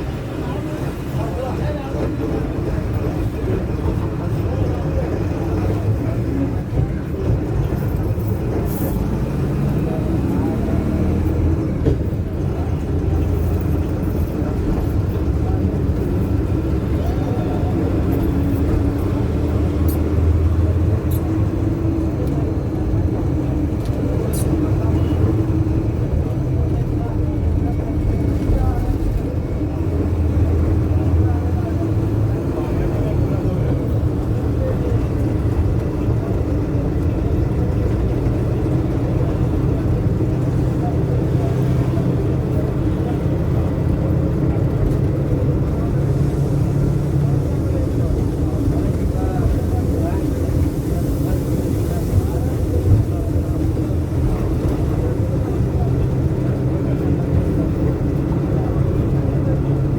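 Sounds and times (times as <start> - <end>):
bus engine drone: 0.0 - 59.9
road rumble: 0.0 - 59.9.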